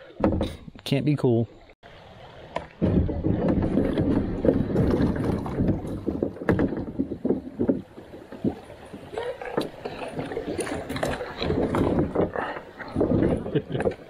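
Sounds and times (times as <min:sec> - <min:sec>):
paddle strokes splashing water: 0:01.9 - 0:14.0.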